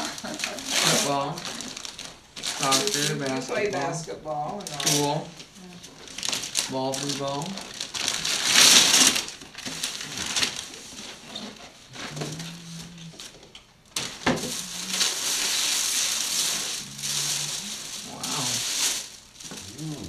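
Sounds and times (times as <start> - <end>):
tissue paper crinkling: 0.0 - 13.4, 14.0 - 20.0.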